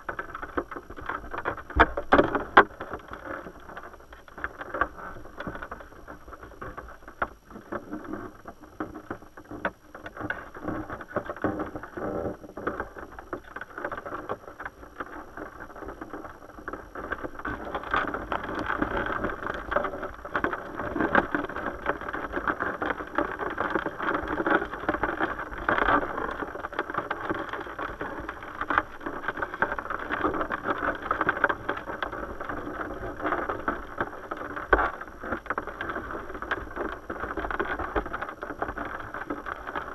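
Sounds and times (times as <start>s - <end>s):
muffled underwater river current: 0.0s - 39.9s
small clicks and knocks: 0.0s - 39.9s.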